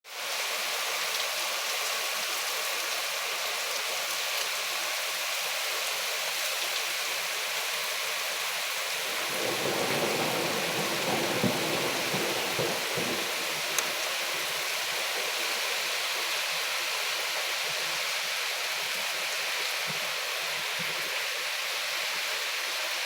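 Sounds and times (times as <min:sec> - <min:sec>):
rain falling: 0:00.1 - 0:23.0.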